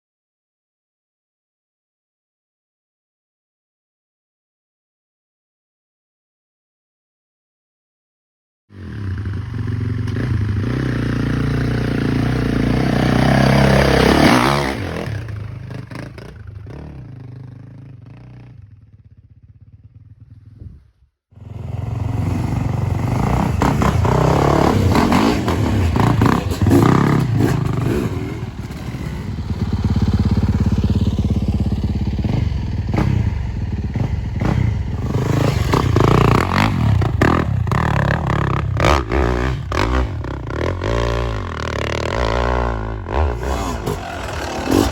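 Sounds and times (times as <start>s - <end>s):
motorcycle engine revving: 8.7s - 44.9s.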